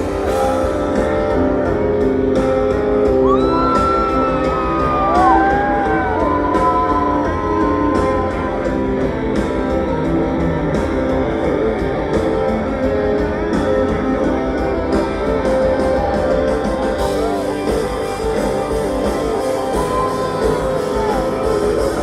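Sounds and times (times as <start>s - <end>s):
bass guitar: 0.0s - 22.0s
drum beat: 0.0s - 22.0s
electric guitar: 0.0s - 22.0s.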